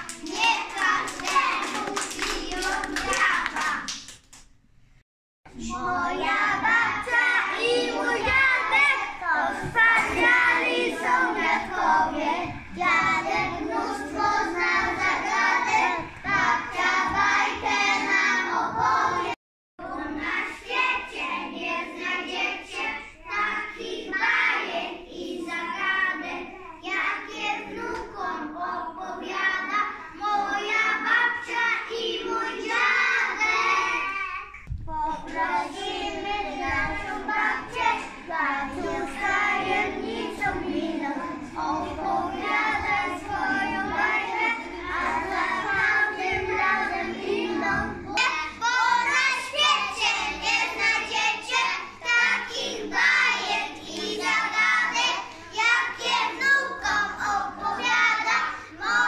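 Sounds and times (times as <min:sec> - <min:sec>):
young children singing: 0:00.0 - 0:04.1, 0:05.5 - 0:59.0.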